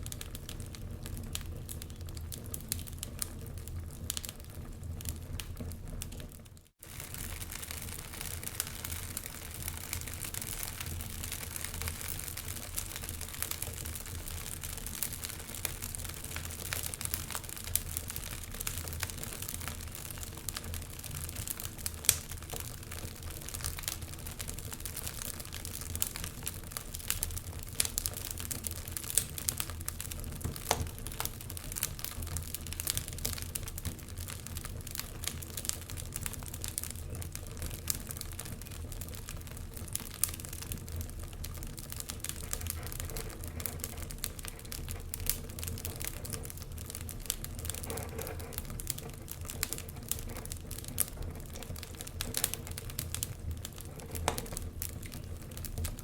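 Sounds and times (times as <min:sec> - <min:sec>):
fire low rumble: 0:00.0 - 0:56.0
logs crackling and popping: 0:00.0 - 0:56.0.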